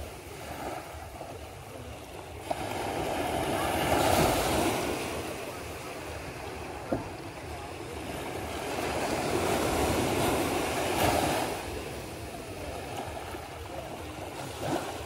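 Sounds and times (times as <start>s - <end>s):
gentle surf on sandy shore: 0.0s - 15.0s.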